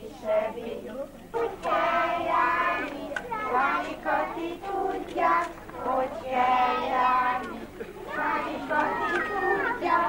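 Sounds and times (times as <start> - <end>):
small children singing: 0.0 - 10.0.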